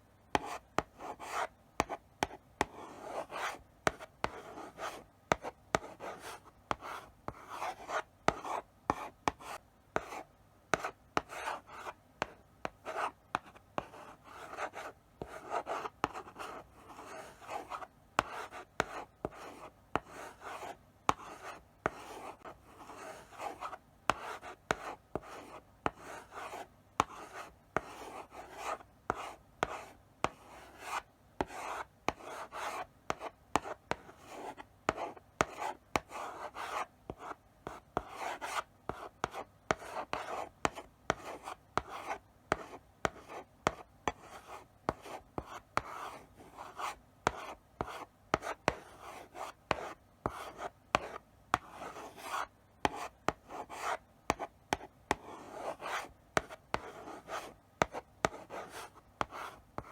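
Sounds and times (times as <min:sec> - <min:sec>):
chalk tapping on board: 0:00.3 - 0:19.4, 0:23.1 - 0:59.9
chalk scratching on blackboard: 0:00.3 - 0:59.9.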